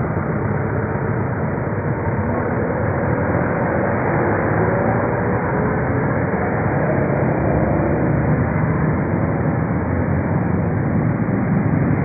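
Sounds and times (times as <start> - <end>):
motorcycle engines: 0.0 - 12.0
car engines on wet road: 2.3 - 12.0.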